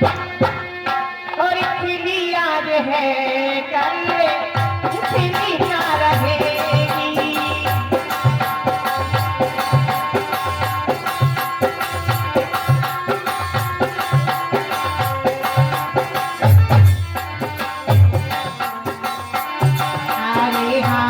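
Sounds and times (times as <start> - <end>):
hand drum rhythm: 0.0 - 1.0, 4.0 - 21.0.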